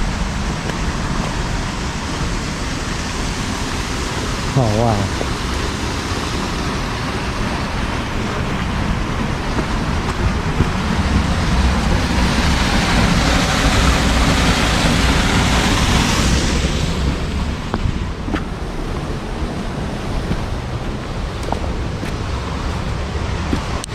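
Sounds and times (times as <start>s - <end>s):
water rushing: 0.0s - 23.9s
wind rumbling on microphone: 0.0s - 23.9s.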